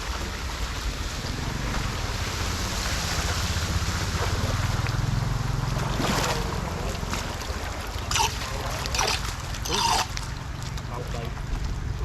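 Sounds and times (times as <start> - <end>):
low engine hum: 0.0 - 12.0
rushing floodwater: 0.0 - 12.0.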